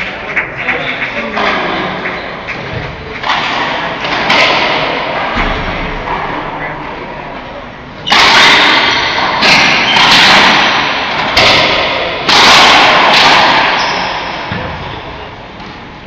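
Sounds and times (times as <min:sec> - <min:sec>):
racquetball hits echoing in court: 0:01.3 - 0:15.8.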